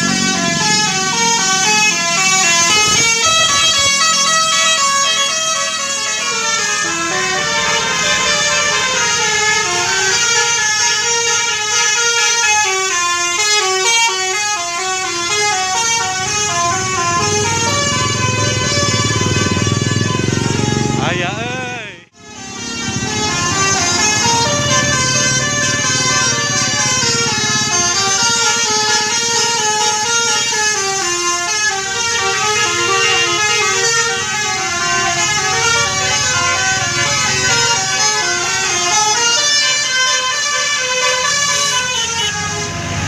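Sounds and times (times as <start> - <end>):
bus air horn melody: 0.0 - 43.0.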